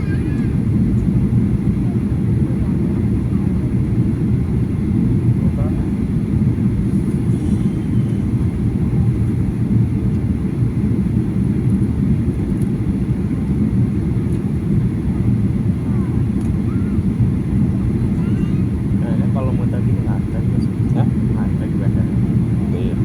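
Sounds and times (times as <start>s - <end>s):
airliner cabin rumble: 0.0s - 23.0s.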